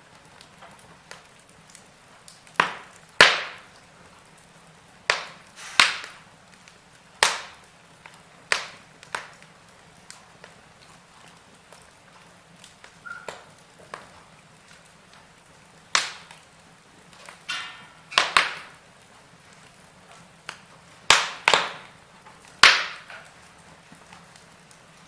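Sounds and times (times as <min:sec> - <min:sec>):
burning logs popping: 0:00.0 - 0:25.0
wood fire crackling: 0:00.0 - 0:25.0.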